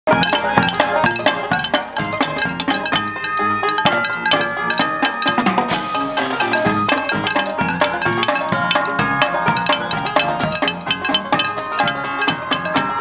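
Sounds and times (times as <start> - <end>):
sticks beating a frying pan: 0.1 - 13.0
upbeat percussive music: 0.1 - 13.0.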